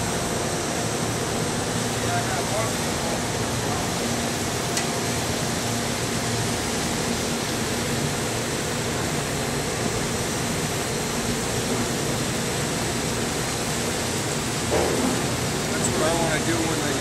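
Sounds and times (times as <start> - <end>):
machinery droning hum and hiss: 0.0 - 17.0.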